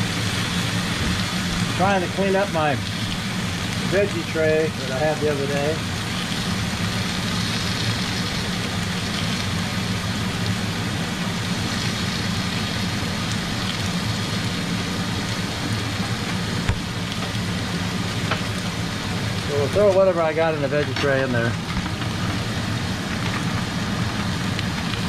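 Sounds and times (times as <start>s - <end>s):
hiss: 0.0s - 20.6s
low mechanical hum: 0.0s - 25.0s.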